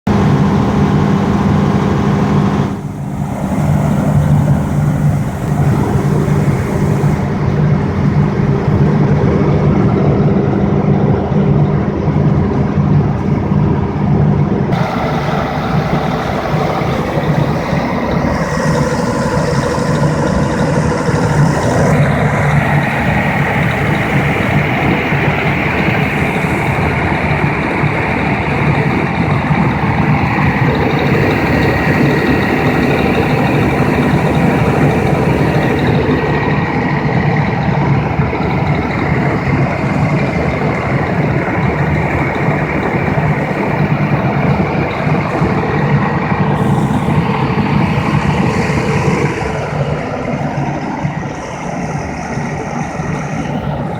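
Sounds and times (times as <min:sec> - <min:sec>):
diesel engine running: 0:00.0 - 0:53.9
faint high whine: 0:00.1 - 0:10.1, 0:14.7 - 0:53.9.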